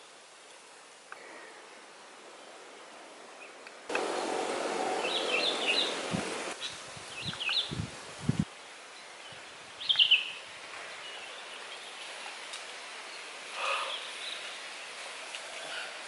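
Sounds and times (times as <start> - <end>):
steady background hiss: 0.0 - 16.0
birds chirping: 1.2 - 7.8, 8.6 - 16.0.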